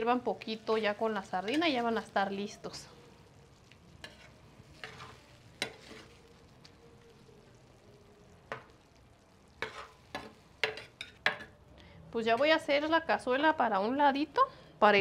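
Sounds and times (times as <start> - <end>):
stew simmering: 0.0 - 12.9.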